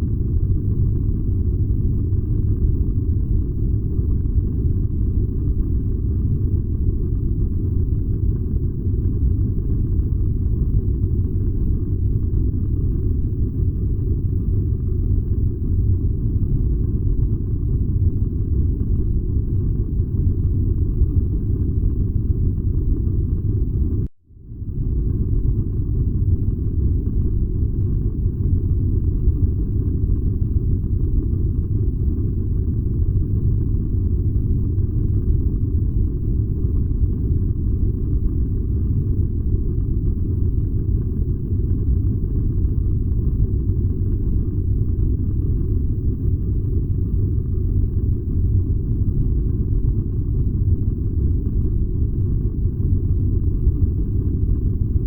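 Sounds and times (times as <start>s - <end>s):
furnace deep rumble: 0.0s - 55.0s.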